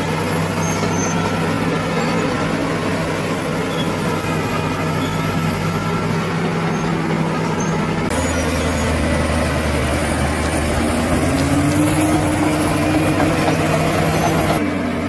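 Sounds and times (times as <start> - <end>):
bulldozer engine running: 0.0 - 15.0.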